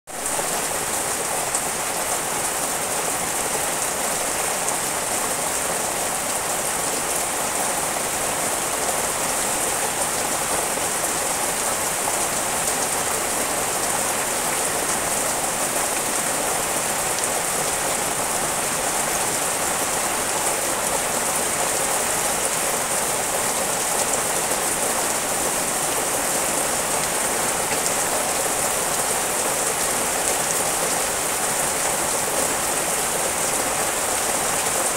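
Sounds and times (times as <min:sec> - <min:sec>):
rain on leaves: 0:00.1 - 0:34.9.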